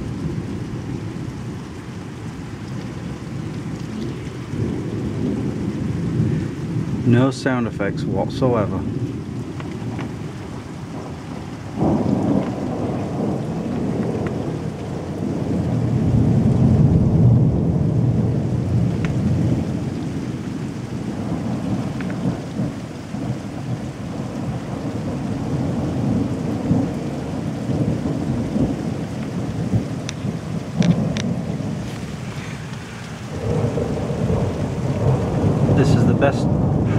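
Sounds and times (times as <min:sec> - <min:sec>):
rain falling: 0:00.0 - 0:36.9
thunder rumbling: 0:00.0 - 0:36.9.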